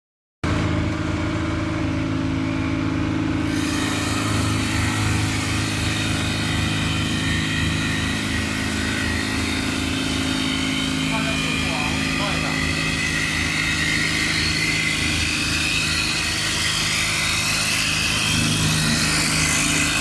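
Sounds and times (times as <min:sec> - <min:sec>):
woodworking machine motor hum: 0:00.4 - 0:20.0.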